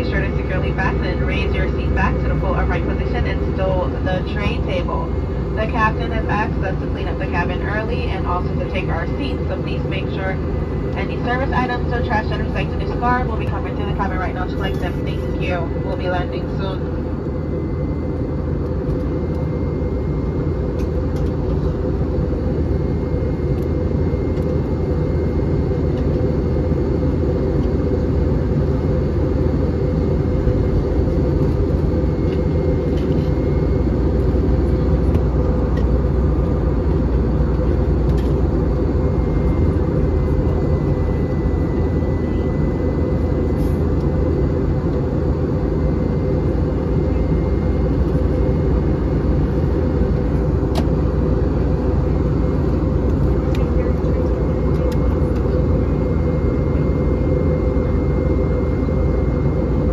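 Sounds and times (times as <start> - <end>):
jet engine and air drone: 0.0 - 59.9.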